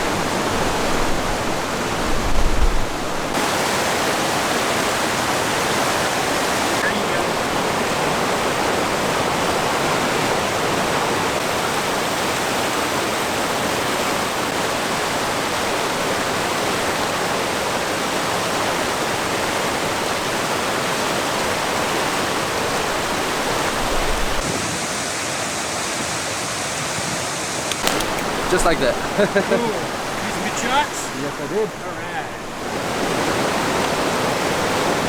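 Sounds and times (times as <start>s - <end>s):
mountain stream rushing: 0.0s - 35.0s.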